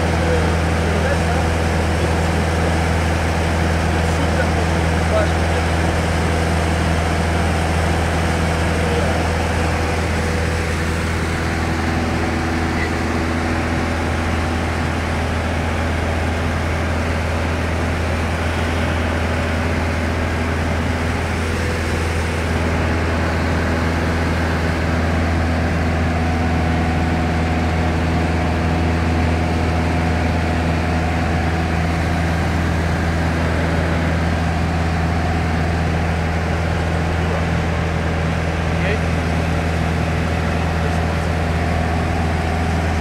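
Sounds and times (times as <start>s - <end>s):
aircraft engine drone: 0.0s - 43.0s.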